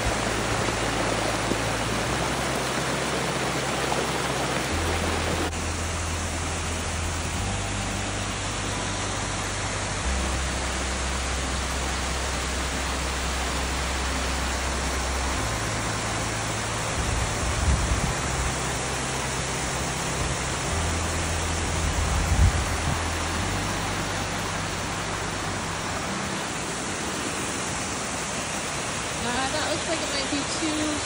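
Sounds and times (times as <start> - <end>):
creek rushing over small waterfall: 0.0 - 31.0.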